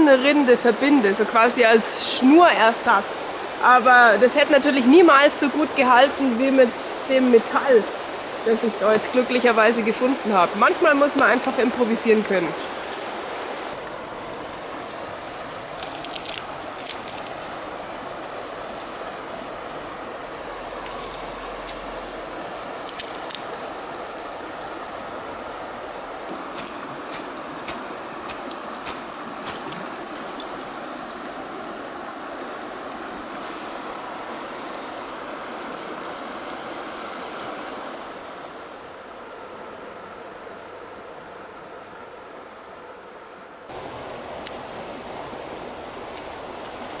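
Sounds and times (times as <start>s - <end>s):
river rushing: 0.0s - 42.8s, 43.7s - 47.0s.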